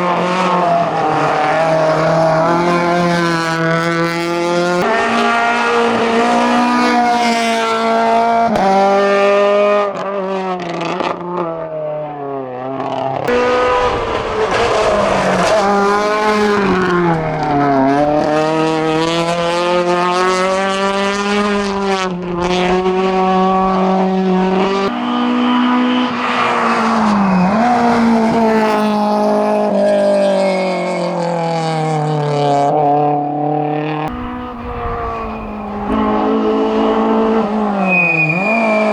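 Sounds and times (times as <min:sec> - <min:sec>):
car engine at full throttle: 0:00.0 - 0:38.9.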